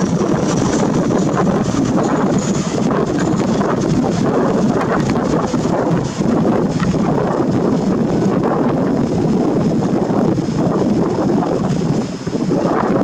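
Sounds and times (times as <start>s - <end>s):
electric train running: 0.0s - 12.6s
wind noise on microphone: 0.0s - 13.0s.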